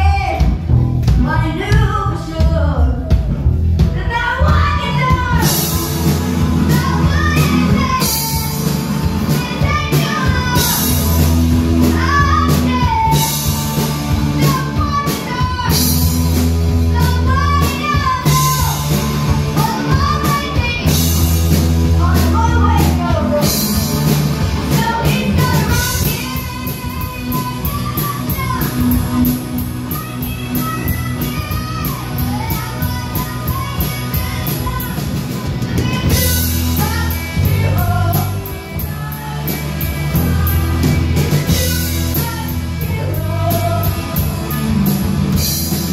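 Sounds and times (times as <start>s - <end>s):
live rock band playing: 0.0s - 45.9s
person singing: 4.0s - 45.9s.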